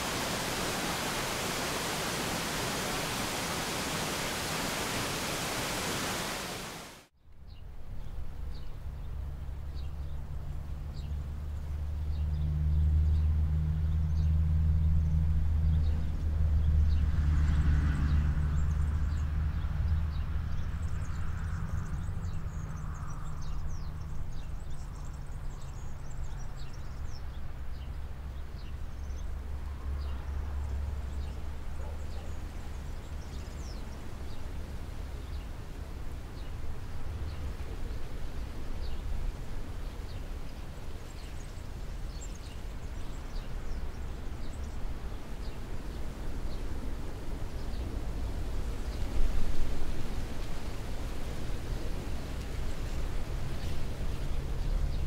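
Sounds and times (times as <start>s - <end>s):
low engine hum: 7.4s - 55.0s.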